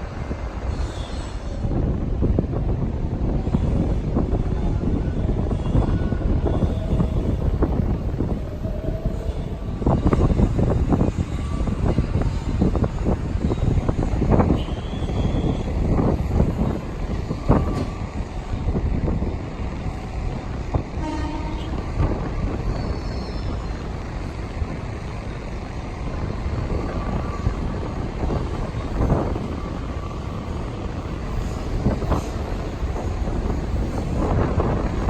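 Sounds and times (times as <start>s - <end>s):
electric train rumbling: 0.0s - 35.0s.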